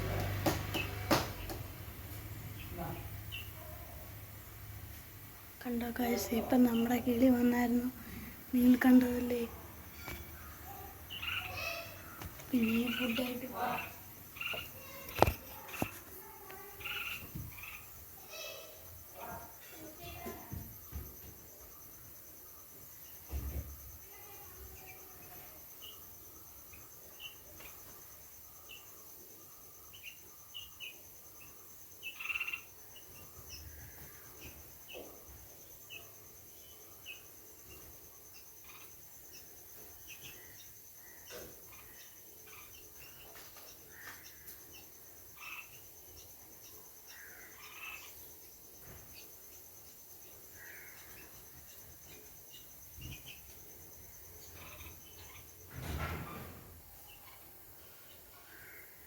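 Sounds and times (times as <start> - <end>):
high insect trilling: 5.5 - 55.7.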